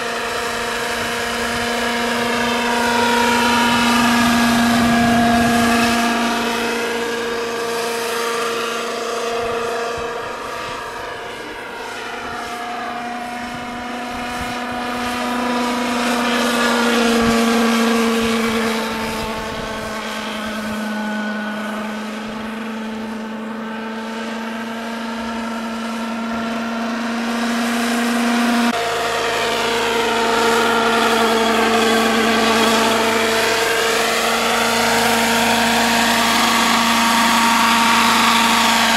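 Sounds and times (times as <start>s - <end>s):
model helicopter rotor whine: 0.0s - 38.9s.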